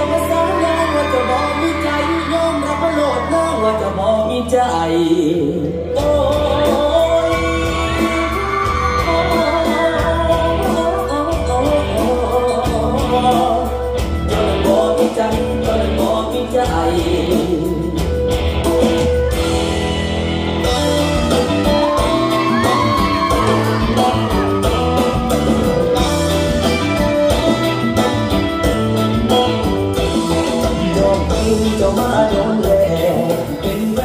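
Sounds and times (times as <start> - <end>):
dance song with singer: 0.0 - 19.7, 20.6 - 34.0.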